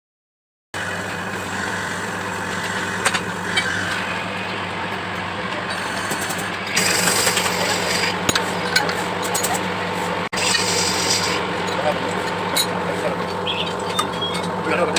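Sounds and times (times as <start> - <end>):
lathe rasping cut: 0.8 - 14.9
motor hum: 0.8 - 14.9.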